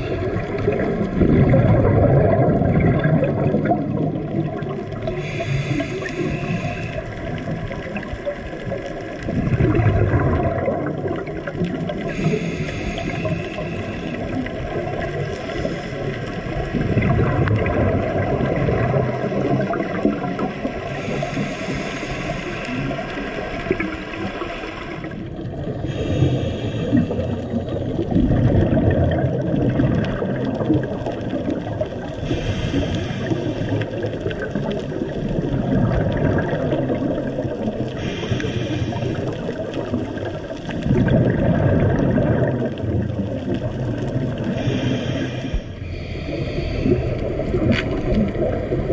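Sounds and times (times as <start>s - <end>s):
diver's exhaled bubbles gurgling: 0.0s - 48.9s
underwater rush of water: 0.0s - 48.9s.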